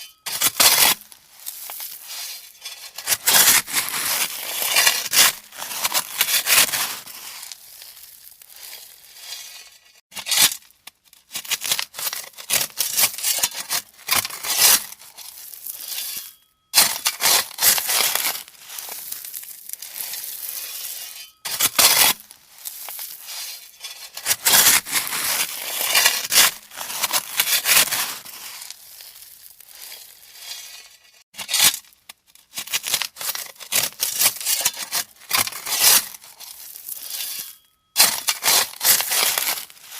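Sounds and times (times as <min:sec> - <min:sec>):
shovel scraping gravel: 0:00.0 - 0:39.9.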